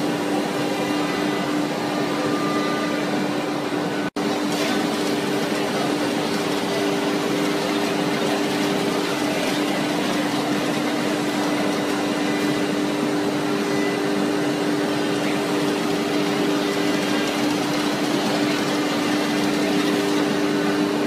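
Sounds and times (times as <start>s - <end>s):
router spindle humming: 3.9s - 21.0s.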